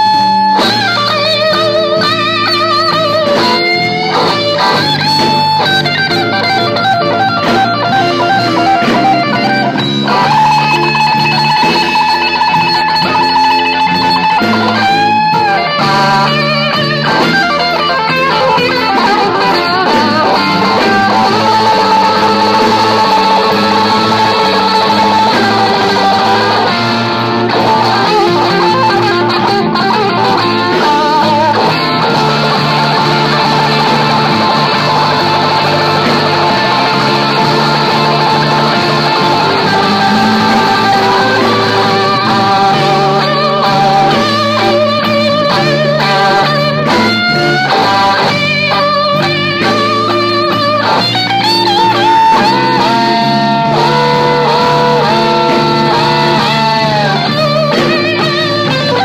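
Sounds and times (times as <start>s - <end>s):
bass line: 0.0s - 59.0s
electric blues guitar lead: 0.0s - 59.0s.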